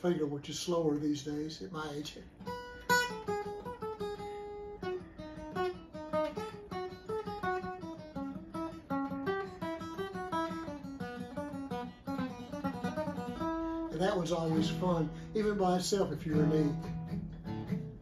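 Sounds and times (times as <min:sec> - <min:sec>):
acoustic guitar picked notes: 0:01.7 - 0:18.0.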